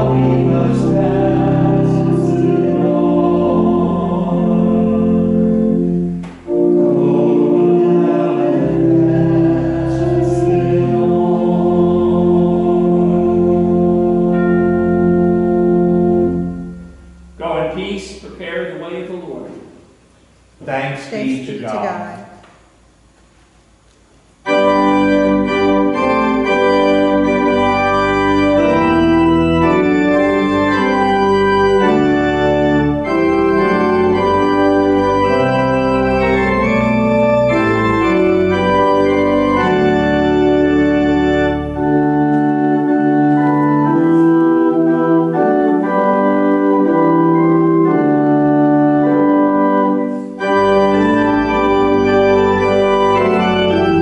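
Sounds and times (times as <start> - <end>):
church organ chords: 0.0 - 54.0.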